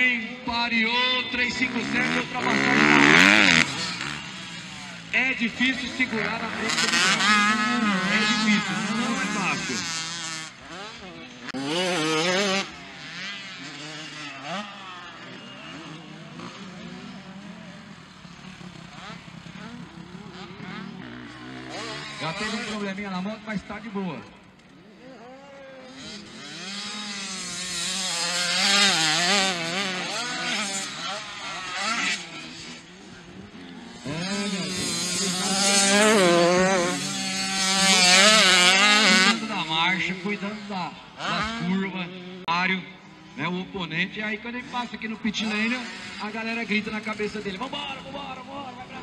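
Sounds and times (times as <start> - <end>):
motorbike engines revving: 0.0 - 49.0.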